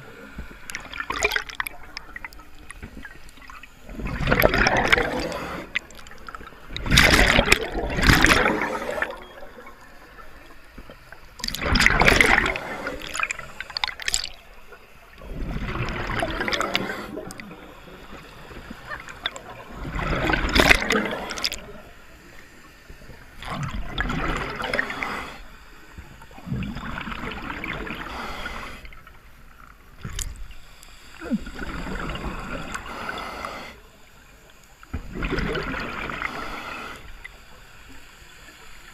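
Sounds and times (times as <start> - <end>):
exhaled bubbles gurgling underwater: 0.0 - 30.6, 31.2 - 33.8, 34.8 - 37.4.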